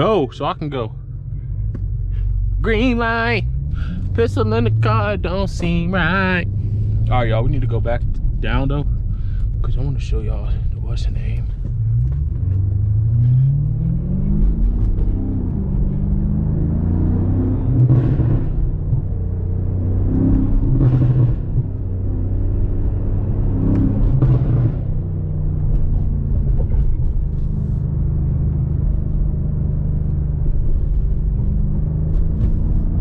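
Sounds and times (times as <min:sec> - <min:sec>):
car engine running at low revs: 0:00.0 - 0:33.0.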